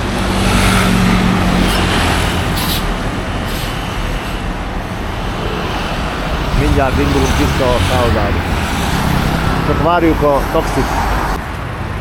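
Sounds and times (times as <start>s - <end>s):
roadside traffic rumble: 0.0s - 12.0s
vehicle engine humming: 0.0s - 12.0s.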